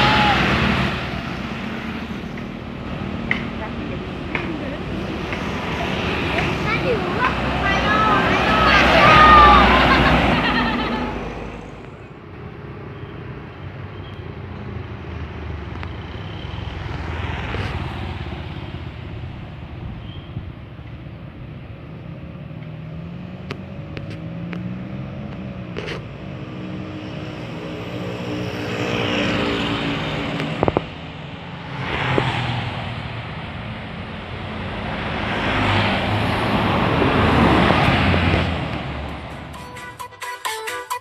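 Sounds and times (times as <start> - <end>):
vehicles passing: 0.0 - 40.1.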